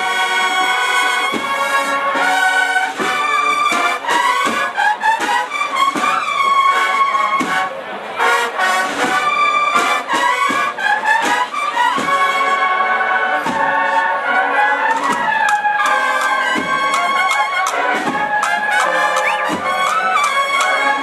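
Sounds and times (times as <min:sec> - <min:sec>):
cornets playing melody: 0:00.0 - 0:21.0
drum strokes: 0:01.2 - 0:07.8, 0:08.4 - 0:12.6, 0:13.4 - 0:14.0, 0:14.8 - 0:21.0.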